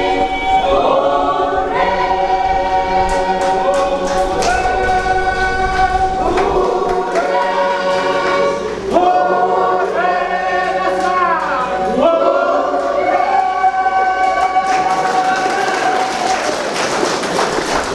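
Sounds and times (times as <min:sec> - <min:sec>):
choir singing gospel in harmony: 0:00.0 - 0:17.0.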